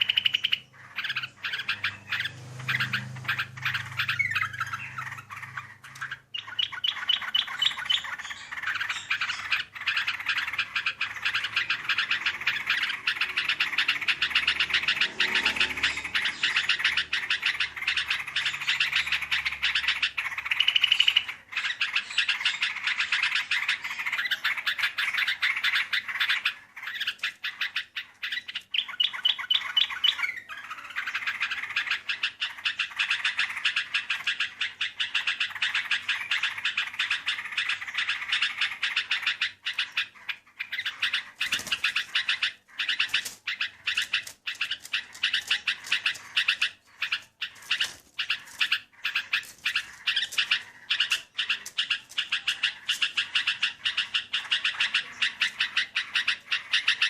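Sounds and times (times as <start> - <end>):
bird rapid chattering calls: 0.0 - 57.0.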